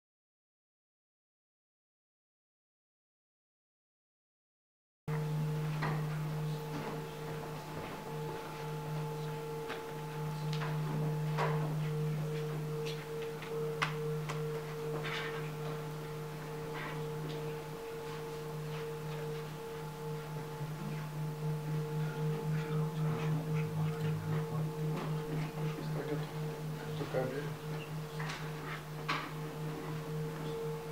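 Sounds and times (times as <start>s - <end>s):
singing bowl drone: 5.1s - 30.9s.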